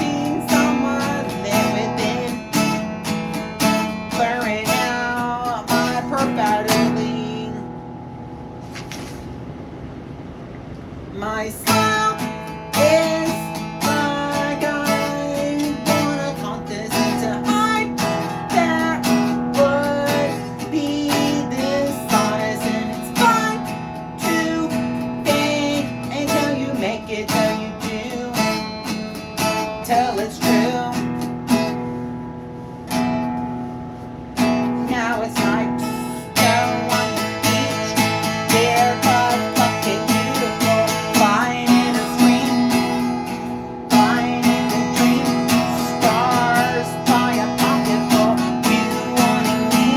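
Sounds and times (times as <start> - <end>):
strummed acoustic guitar: 0.0 - 9.6, 11.1 - 49.9.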